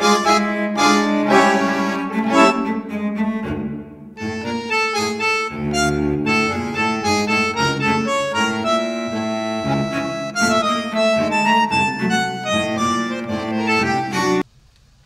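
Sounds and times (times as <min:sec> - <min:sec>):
instrumental background music: 0:00.0 - 0:14.4.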